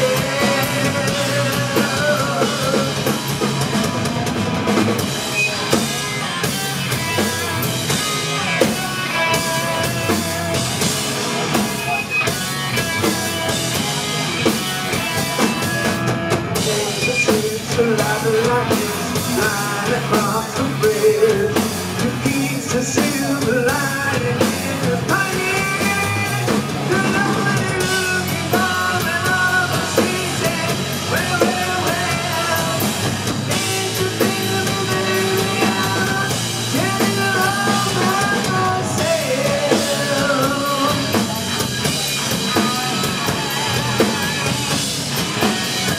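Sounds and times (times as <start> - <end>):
man singing lead vocal: 0.0 - 3.5, 6.8 - 10.6, 15.1 - 45.9
drum kit: 0.0 - 45.9
electric guitar: 0.0 - 45.9.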